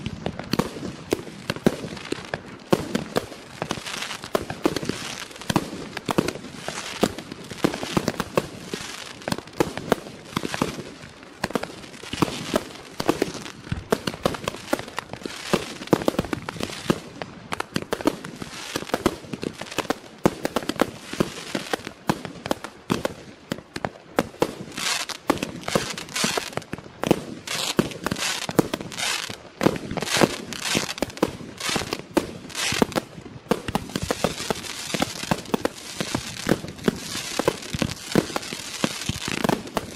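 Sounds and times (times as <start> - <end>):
fireworks bangs and bursts: 0.0 - 39.9.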